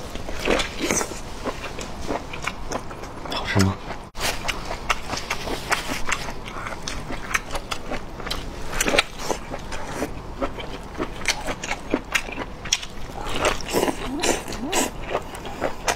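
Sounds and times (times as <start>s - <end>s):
crunchy chewing: 0.0s - 15.9s.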